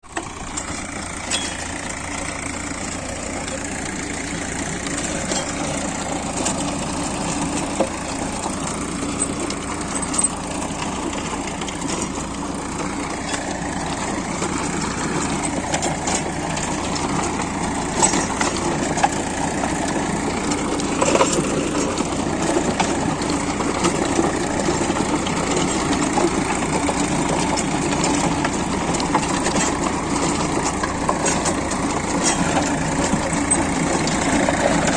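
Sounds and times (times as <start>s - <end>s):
tractor diesel engine running: 0.0s - 34.9s
sharp clicks and knocks: 4.8s - 34.9s.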